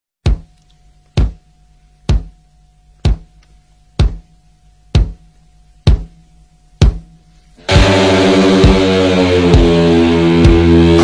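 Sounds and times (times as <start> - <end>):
slow drum beat: 0.2 - 0.5, 1.2 - 2.4, 3.0 - 6.2, 6.8 - 11.0.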